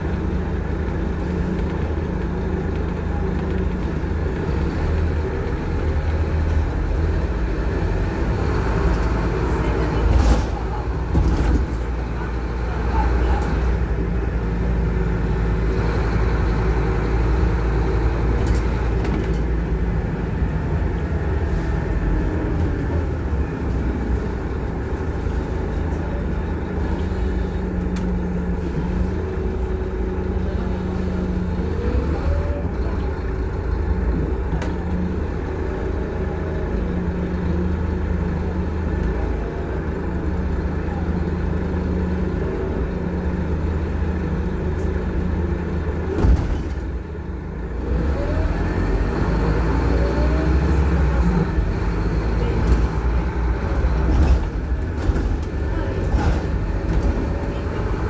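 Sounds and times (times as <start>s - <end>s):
bus diesel engine running: 0.0s - 58.0s
road noise: 0.0s - 58.0s.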